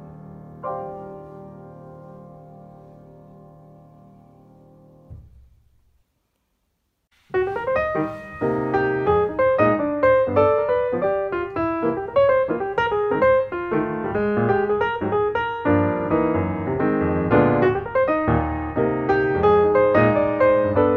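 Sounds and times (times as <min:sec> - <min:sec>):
piano music: 0:00.0 - 0:05.3, 0:07.3 - 0:20.9.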